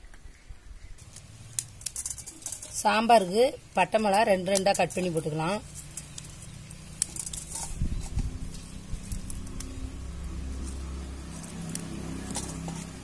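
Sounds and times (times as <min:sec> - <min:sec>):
dried chillies snapping: 0:01.0 - 0:13.0.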